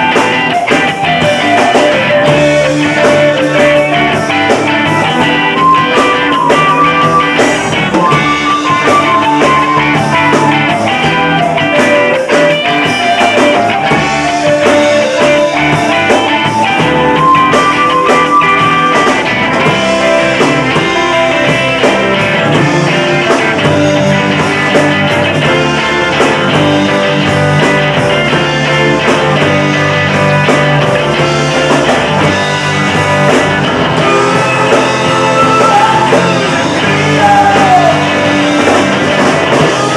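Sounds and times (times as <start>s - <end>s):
melodic lead line: 0.0s - 39.9s
rock band playing live: 0.0s - 39.9s.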